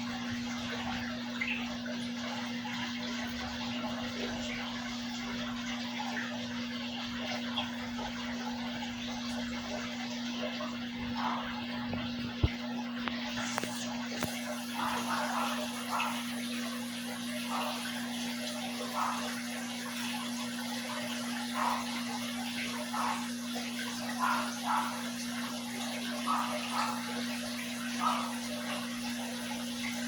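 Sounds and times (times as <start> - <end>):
aquarium water splashing: 0.0 - 30.0
water gurgles: 0.0 - 30.0.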